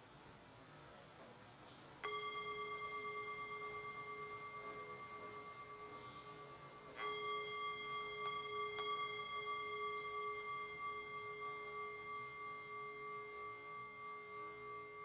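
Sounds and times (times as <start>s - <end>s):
struck bell ringing: 2.0s - 15.0s.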